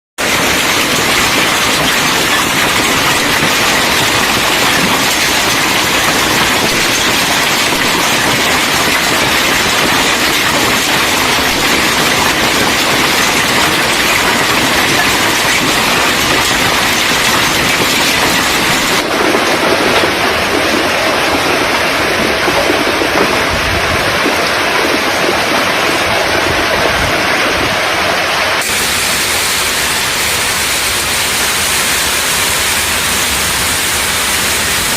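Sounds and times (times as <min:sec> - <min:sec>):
heavy rain downpour: 0:00.2 - 0:34.9.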